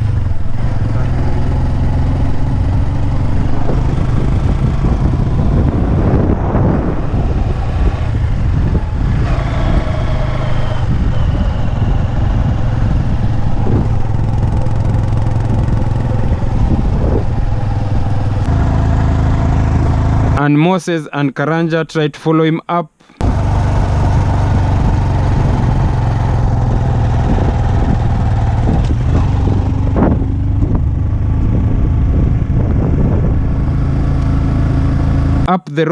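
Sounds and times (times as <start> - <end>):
motorcycle engine running: 0.0 - 20.4, 23.2 - 35.5.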